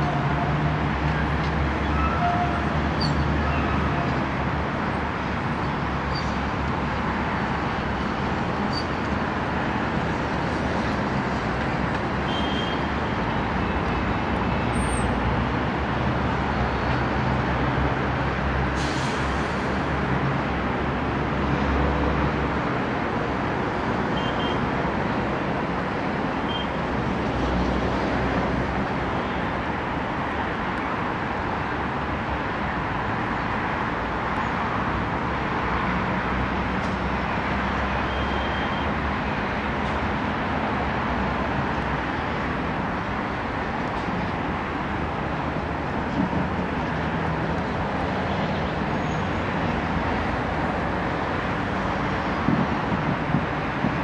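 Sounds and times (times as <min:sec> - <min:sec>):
city traffic hum: 0:00.0 - 0:54.0.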